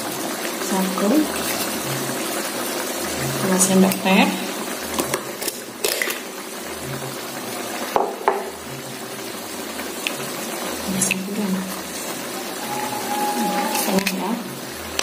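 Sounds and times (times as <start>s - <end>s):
stew bubbling in a wok: 0.0s - 15.0s.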